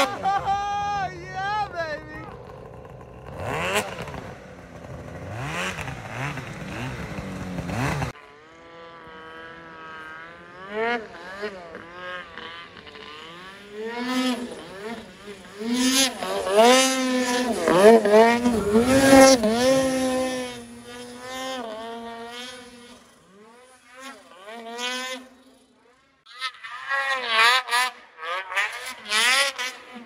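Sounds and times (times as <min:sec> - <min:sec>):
second snowmobile engine revving: 0:00.0 - 0:30.0
snowmobile engine revving: 0:00.0 - 0:30.0.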